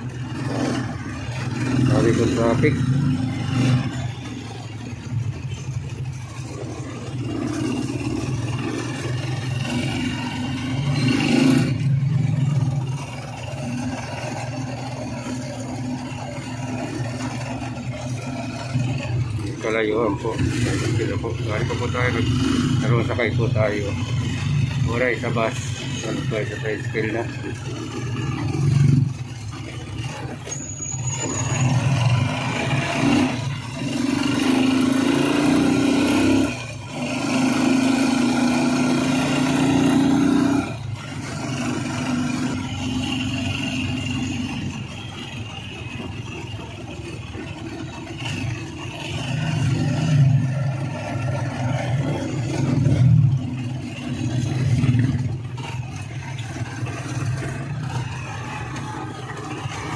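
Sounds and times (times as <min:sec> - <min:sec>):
motorcycle engine running: 0:00.0 - 0:59.9
road and traffic noise: 0:00.0 - 0:59.9.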